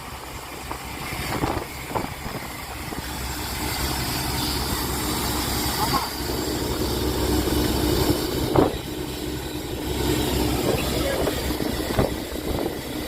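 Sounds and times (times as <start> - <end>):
boat engine rumbling: 0.0 - 13.0
wind and sea noise: 0.0 - 13.0.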